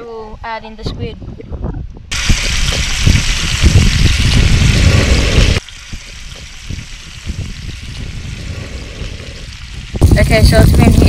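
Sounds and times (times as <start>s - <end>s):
wind buffeting the microphone: 0.0s - 11.0s.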